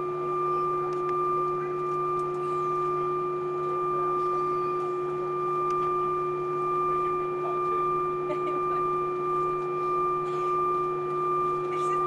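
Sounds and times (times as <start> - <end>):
aircraft cabin whine and hum: 0.0 - 12.0.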